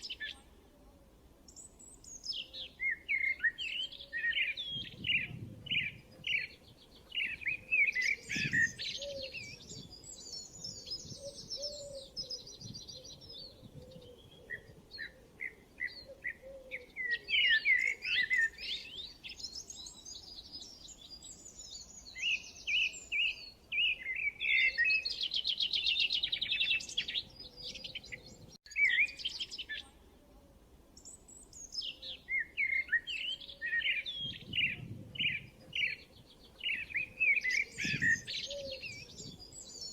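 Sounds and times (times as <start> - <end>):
birds chirping: 1.5 - 30.0, 31.0 - 39.9.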